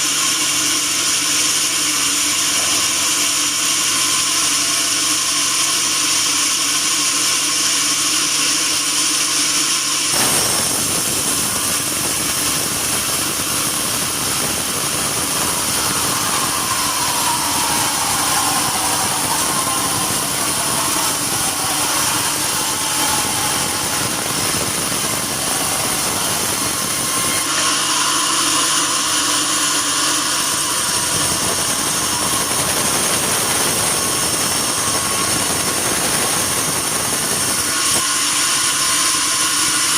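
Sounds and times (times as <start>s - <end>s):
bandsaw whining and cutting log: 0.0s - 39.9s.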